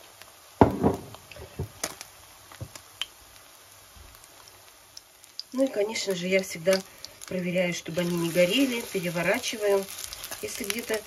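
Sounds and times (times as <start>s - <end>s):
oil popping and crackling: 0.0s - 11.0s
quiet frying sizzle: 0.0s - 11.0s.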